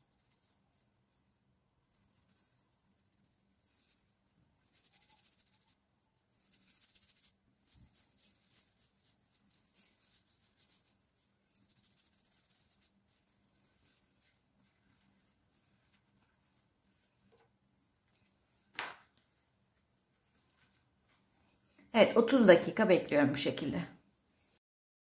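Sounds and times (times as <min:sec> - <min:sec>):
fingers rustling through hair: 0:00.0 - 0:00.9, 0:01.8 - 0:21.8.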